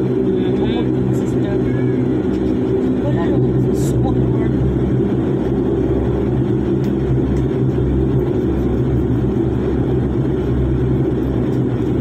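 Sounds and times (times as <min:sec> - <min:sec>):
airliner engines droning: 0:00.0 - 0:12.0
low hum: 0:00.0 - 0:12.0.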